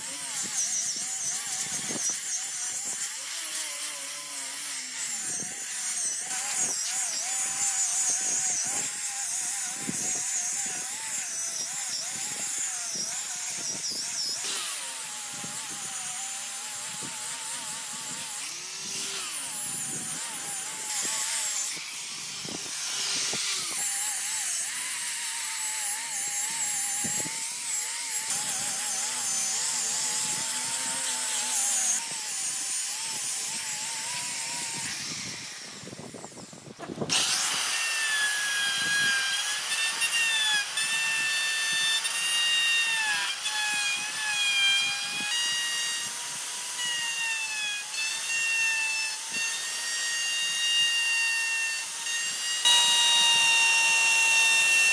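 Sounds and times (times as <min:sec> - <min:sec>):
angle grinder sanding wood: 0:00.0 - 0:54.9
electric router whine: 0:00.0 - 0:54.9.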